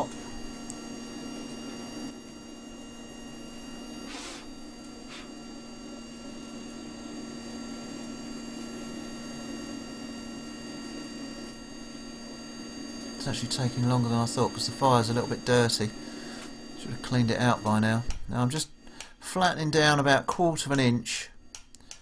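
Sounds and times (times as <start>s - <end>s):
forge air blower humming: 0.0s - 22.0s.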